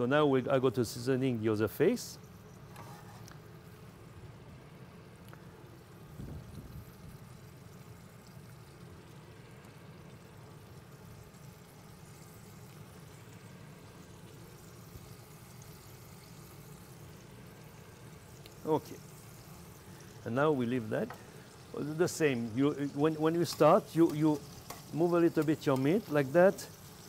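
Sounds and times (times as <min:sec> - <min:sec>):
chicken frying in oil: 0:02.1 - 0:27.0.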